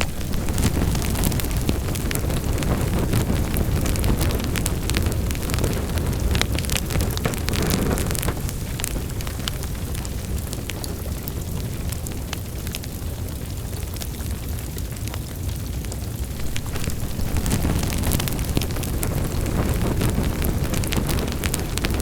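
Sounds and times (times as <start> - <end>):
fire crackles and pops: 0.0 - 22.0
fire flames roaring: 0.0 - 22.0.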